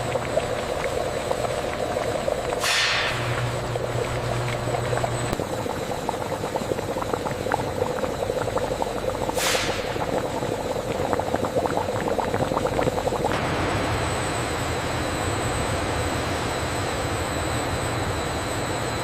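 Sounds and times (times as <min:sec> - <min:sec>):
juice bubbling in a pan: 0:00.0 - 0:19.0
steady hum: 0:00.0 - 0:19.0.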